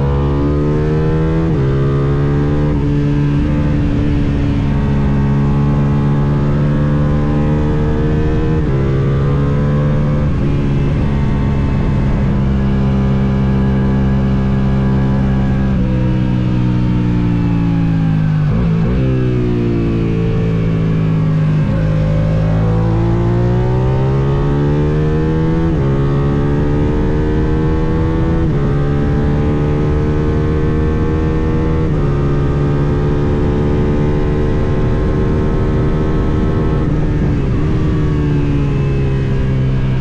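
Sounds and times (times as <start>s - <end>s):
motorcycle engine at high revs: 0.0s - 40.0s
wind noise: 0.0s - 40.0s.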